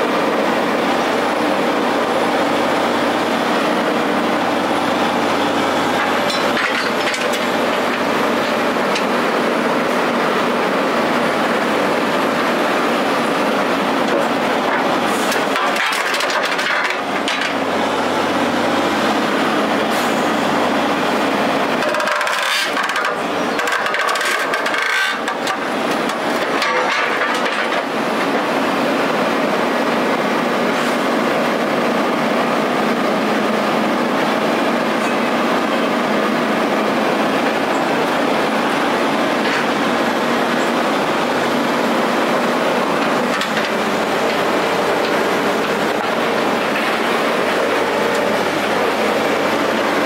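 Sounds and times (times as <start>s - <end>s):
heavy machinery rumbling: 0.0s - 50.0s.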